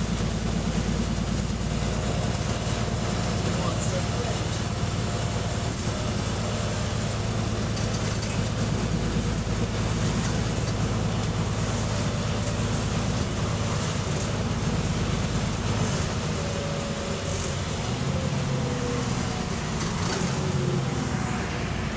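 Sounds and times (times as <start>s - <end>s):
bus engine drone: 0.0s - 21.9s
road noise: 0.0s - 21.9s.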